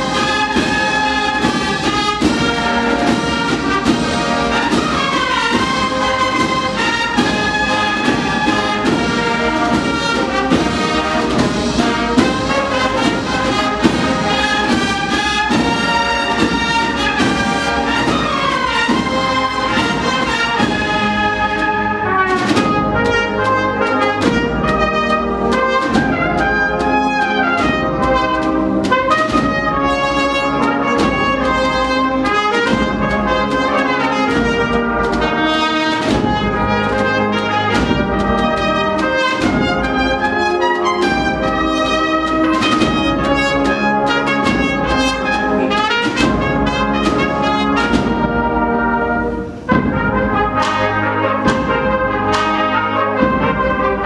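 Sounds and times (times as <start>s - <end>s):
brass band playing a march: 0.0s - 54.0s.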